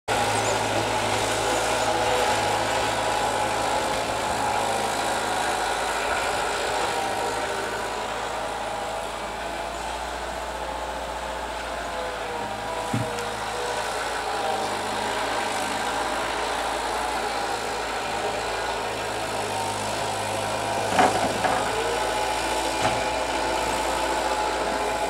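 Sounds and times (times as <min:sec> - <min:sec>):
loader engine running: 0:00.1 - 0:25.0.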